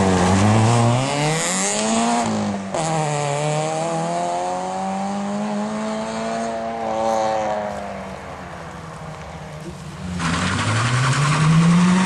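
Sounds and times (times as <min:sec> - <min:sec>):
rally car engines accelerating: 0:00.0 - 0:08.0, 0:09.6 - 0:12.0.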